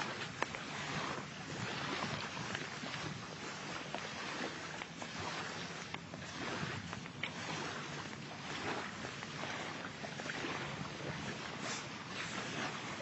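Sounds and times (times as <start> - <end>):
water: 0.0 - 13.0
wind: 0.0 - 13.0.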